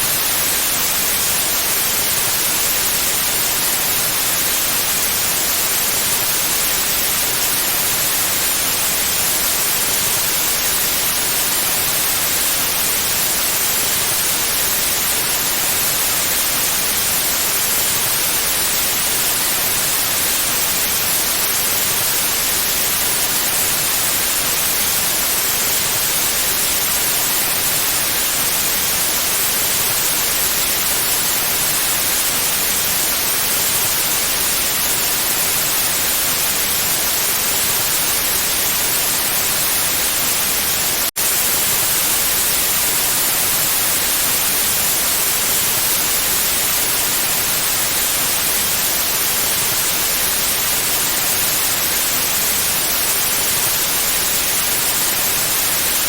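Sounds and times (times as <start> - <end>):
steady white noise hiss: 0.0 - 56.0.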